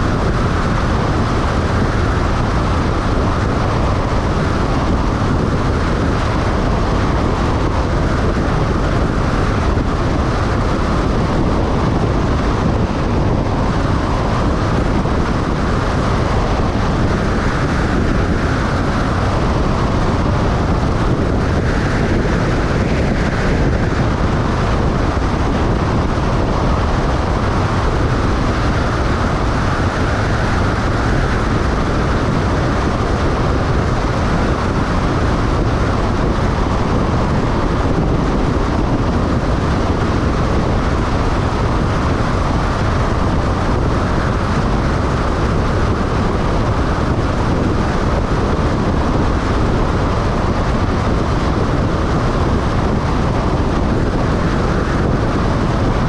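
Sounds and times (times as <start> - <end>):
vehicle road and wind noise: 0.0 - 56.0.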